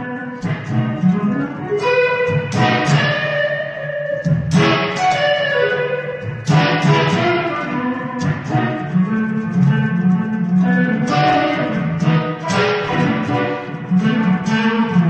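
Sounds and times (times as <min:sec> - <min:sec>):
electric guitar chords and notes: 0:00.0 - 0:15.0.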